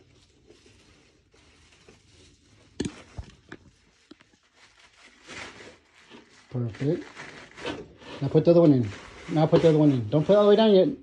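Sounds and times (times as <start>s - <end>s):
cloth rustling: 0.0s - 11.0s.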